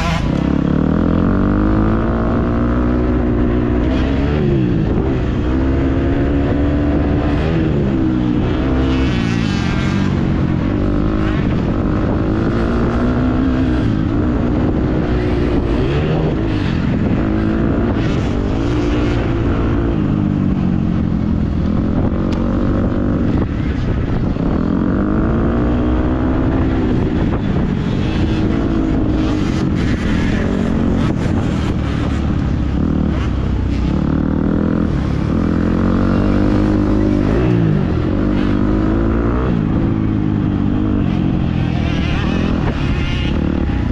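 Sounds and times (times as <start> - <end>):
motocross bike engine revving: 0.0 - 20.0, 20.6 - 43.9
wind and ground rumble: 0.0 - 43.9.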